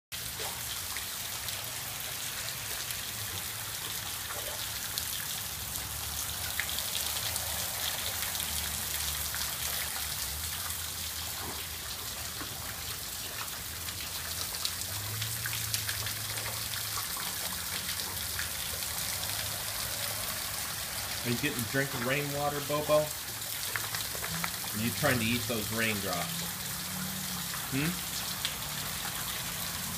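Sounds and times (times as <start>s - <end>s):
water dripping and splashing: 0.1s - 29.9s
steady rain: 0.2s - 29.9s.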